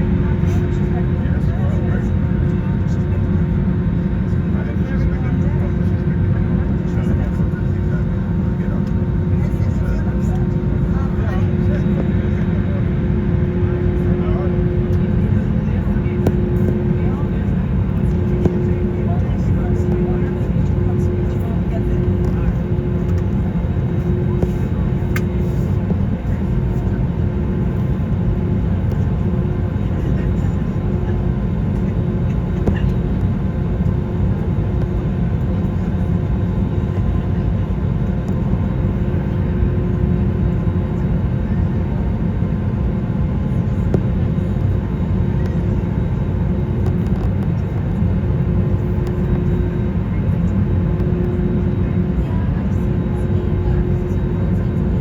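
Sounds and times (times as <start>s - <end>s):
airliner cabin engine rumble: 0.0s - 55.0s
faint hum: 0.0s - 55.0s.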